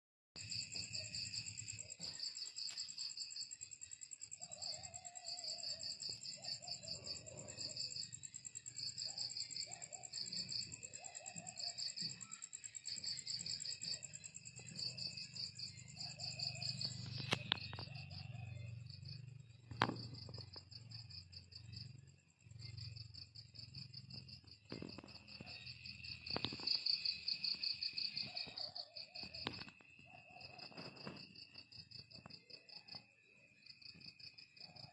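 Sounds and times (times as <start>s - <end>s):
crickets chirping: 0.4s - 34.9s
high-pitched insect trills: 0.4s - 34.9s.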